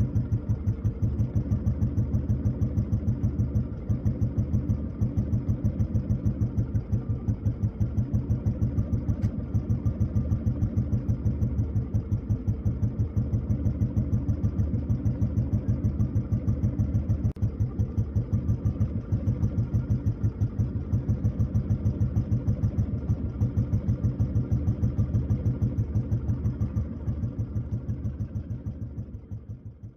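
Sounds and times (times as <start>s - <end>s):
motorcycle engine idling: 0.0s - 29.9s.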